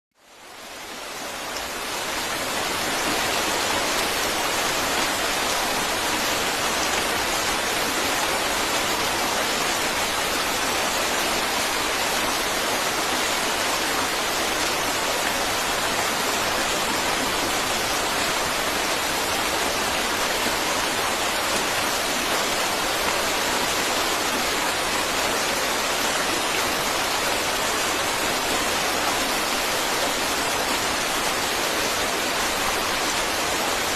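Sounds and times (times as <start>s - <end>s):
falling water rushing: 0.2s - 33.9s.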